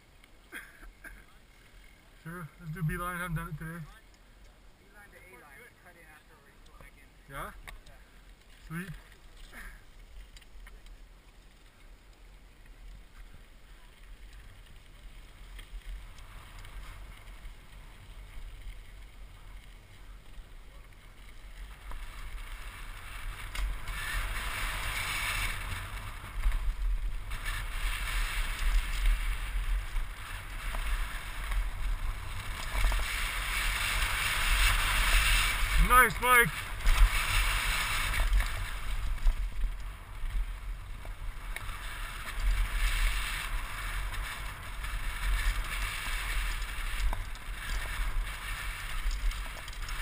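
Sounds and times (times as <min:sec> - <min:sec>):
bike tyre crunch and rattle: 0:00.0 - 0:50.0.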